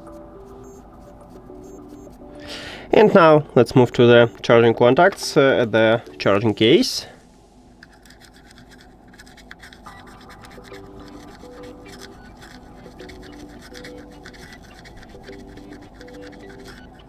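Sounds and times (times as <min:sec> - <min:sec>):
soft background music: 0:00.0 - 0:17.0
brush scrubbing plastic case: 0:02.8 - 0:17.0.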